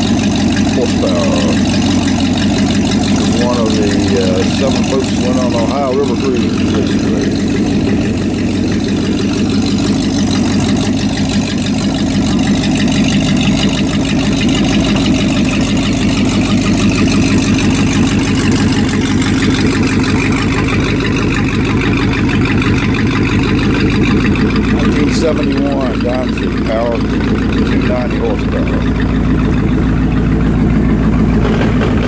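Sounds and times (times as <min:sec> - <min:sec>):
motorboat engine idling: 0:00.0 - 0:32.0.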